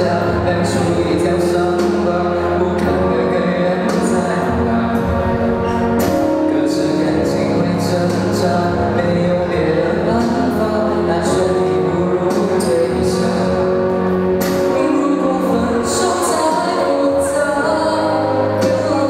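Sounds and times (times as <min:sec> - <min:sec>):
backing track with cymbal beat: 0:00.0 - 0:19.0
man singing into microphone: 0:00.0 - 0:19.0.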